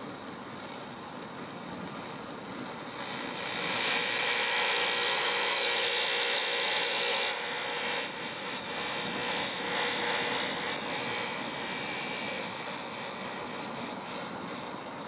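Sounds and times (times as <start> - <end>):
radio static hissing: 2.0 - 15.0.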